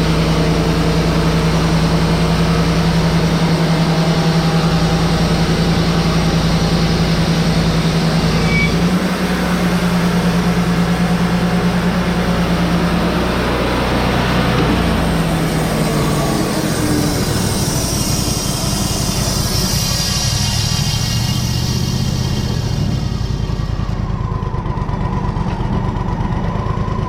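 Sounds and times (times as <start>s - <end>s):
band saw blade running: 0.0s - 24.1s
sawmill engine running: 0.0s - 27.0s.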